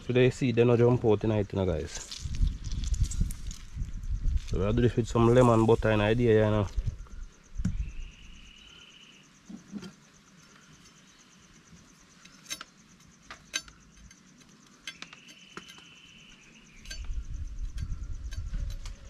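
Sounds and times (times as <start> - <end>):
insects chirping and buzzing: 0.0 - 19.0.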